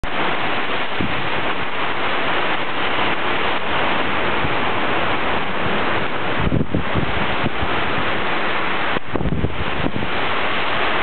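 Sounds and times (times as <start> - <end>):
torrential rain hissing: 0.0 - 11.0
wind buffeting microphone: 0.0 - 11.0.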